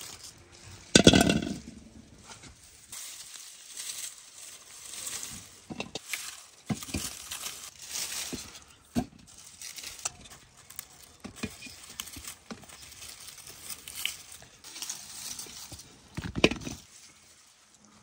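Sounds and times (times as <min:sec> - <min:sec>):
dry foliage rustling and snapping: 0:00.0 - 0:18.0.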